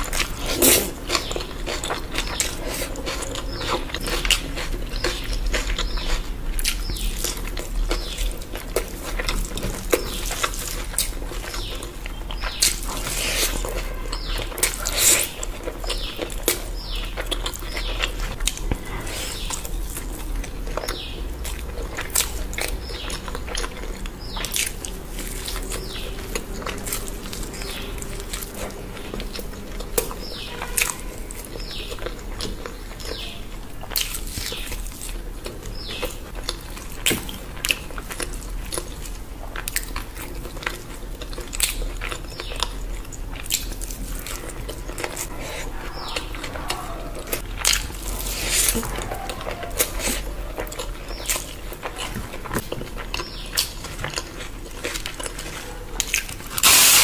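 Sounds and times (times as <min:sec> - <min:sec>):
close chewing: 0:00.0 - 0:57.0.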